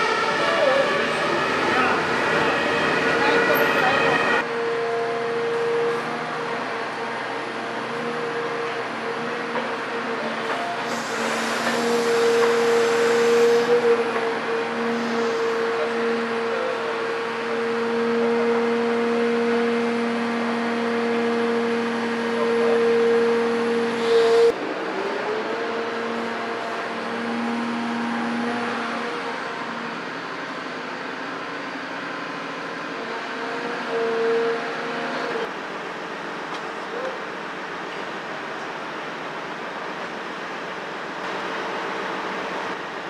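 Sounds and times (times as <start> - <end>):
hydraulic whine: 0.0 - 35.5.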